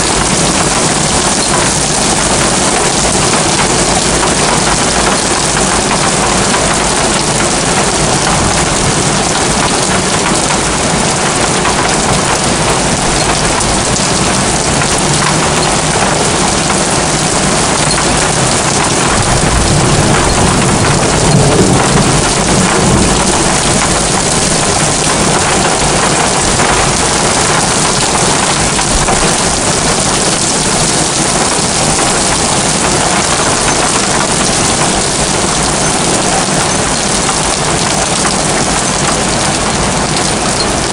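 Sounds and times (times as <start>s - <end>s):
heavy rain on a roof: 0.0s - 40.9s
thunder rumbling: 0.0s - 40.9s.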